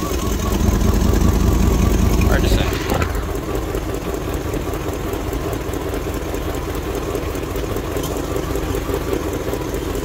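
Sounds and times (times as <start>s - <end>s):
engine idling with a miss: 0.0s - 10.0s.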